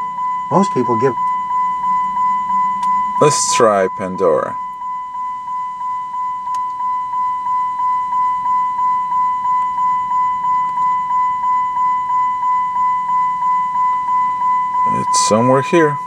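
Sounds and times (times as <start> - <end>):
car warning chime: 0.0 - 16.0.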